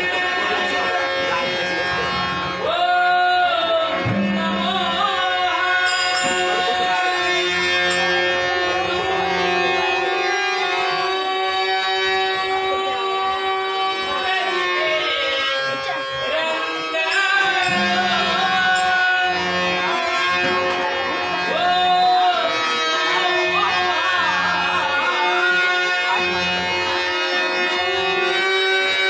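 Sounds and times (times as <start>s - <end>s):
harmonium drone: 0.0s - 29.0s.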